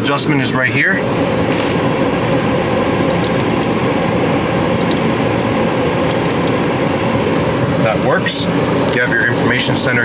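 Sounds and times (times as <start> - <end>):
car climate blower rushing: 0.8 - 10.0.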